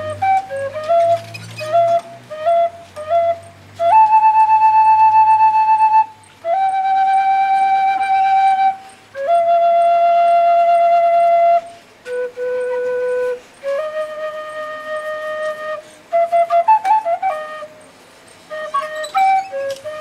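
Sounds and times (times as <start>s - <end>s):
bamboo flute playing long notes: 0.0s - 20.0s.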